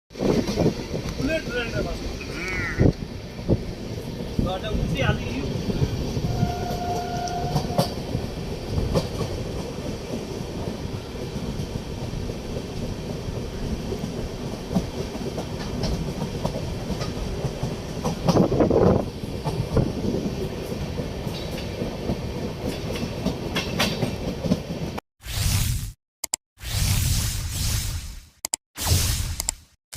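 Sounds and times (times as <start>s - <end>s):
train rumbling on rails: 0.1s - 25.0s
wheels clicking over rail joints: 0.2s - 25.0s.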